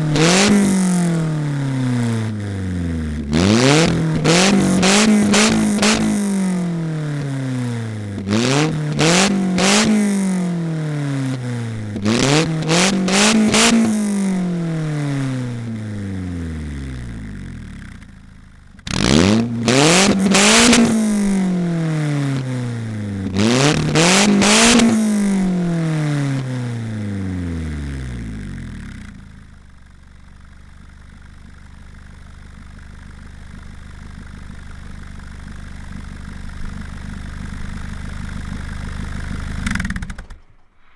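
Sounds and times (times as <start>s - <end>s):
car engine revving: 0.0s - 29.9s, 32.4s - 40.9s.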